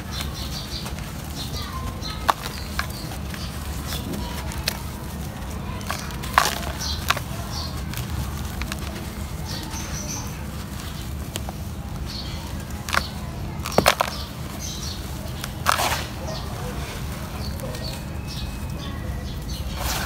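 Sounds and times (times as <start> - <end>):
wet gritty mud squelching: 0.0 - 18.0.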